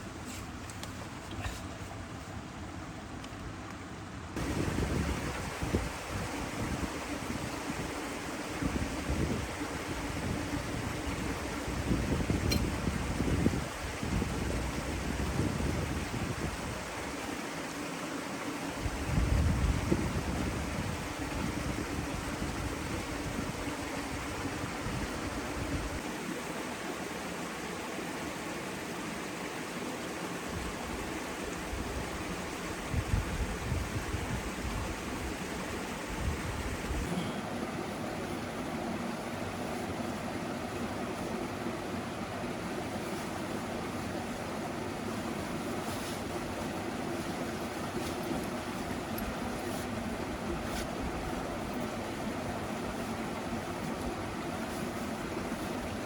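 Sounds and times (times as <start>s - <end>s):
rushing outdoor noise: 0.0s - 56.0s.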